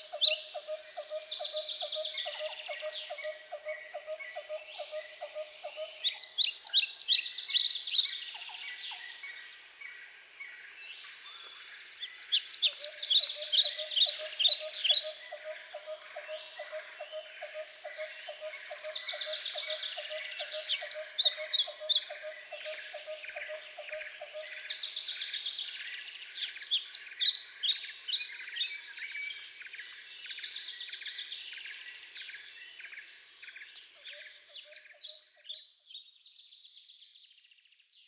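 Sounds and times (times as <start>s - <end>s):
birds chirping and twittering: 0.0s - 38.0s.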